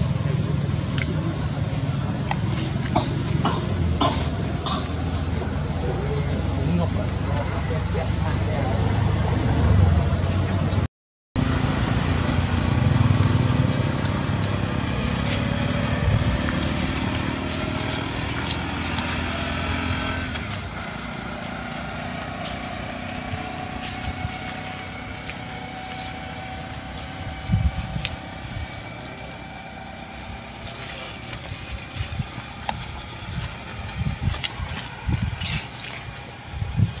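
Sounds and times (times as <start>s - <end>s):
low rumbling noise: 0.0s - 37.0s.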